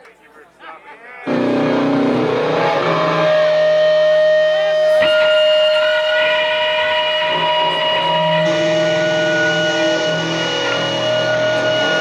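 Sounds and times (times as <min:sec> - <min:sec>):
distorted electric guitars droning: 0:01.3 - 0:12.0.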